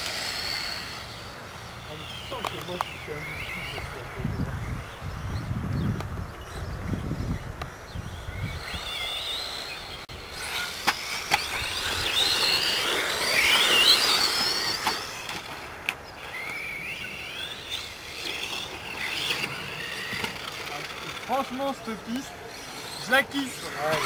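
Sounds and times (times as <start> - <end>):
rc car motors whining: 0.0 - 24.0.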